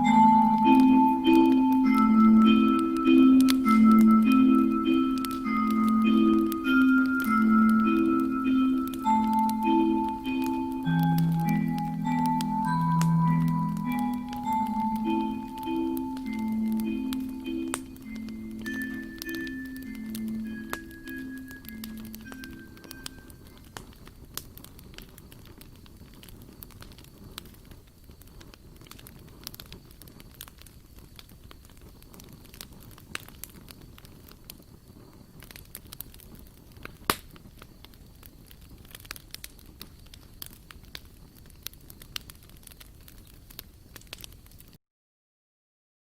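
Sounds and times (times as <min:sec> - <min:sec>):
campfire crackling: 0:00.0 - 0:44.8.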